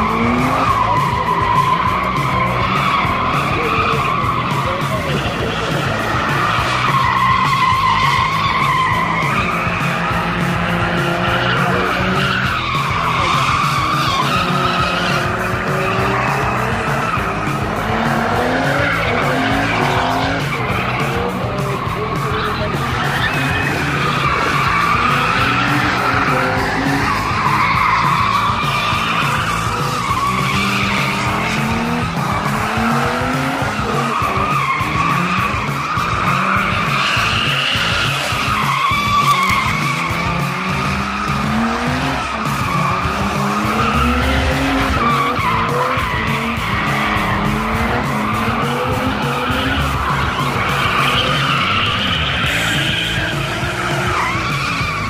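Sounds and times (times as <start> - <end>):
car engine revving: 0.0 - 55.0
tyre squeal: 0.0 - 55.0.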